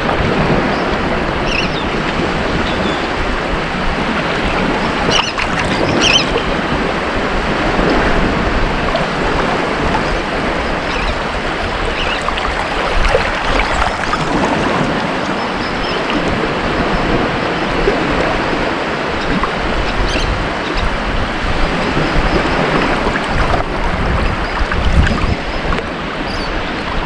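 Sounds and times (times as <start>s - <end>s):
ocean surf washing onto beach: 0.0s - 27.0s.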